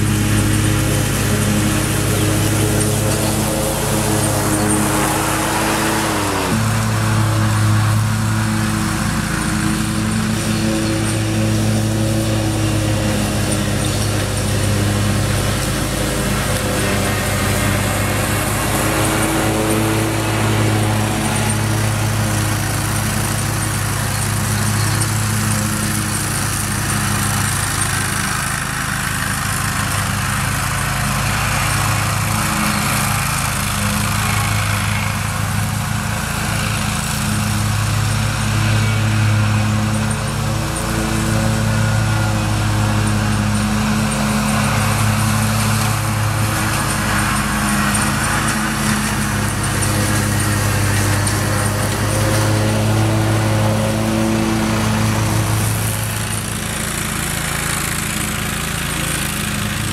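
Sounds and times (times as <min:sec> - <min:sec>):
lawn mower engine running: 0:00.0 - 0:59.9
mower blades cutting grass: 0:00.0 - 0:59.9.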